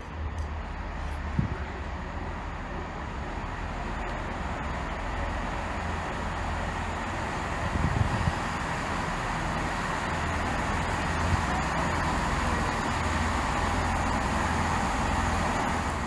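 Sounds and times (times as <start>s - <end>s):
train running: 0.0s - 16.0s.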